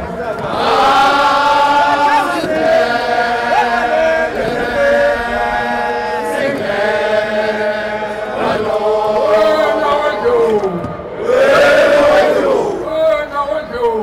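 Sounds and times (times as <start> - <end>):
men chanting in unison: 0.0 - 12.9.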